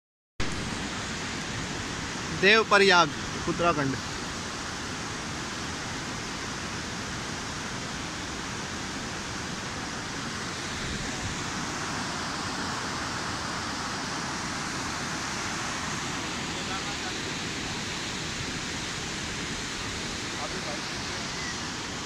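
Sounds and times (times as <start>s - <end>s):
river rushing over rapids: 0.4s - 22.0s.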